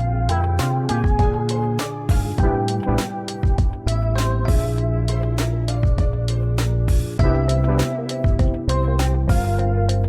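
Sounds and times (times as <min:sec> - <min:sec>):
music with deep bass and beat: 0:00.0 - 0:10.0.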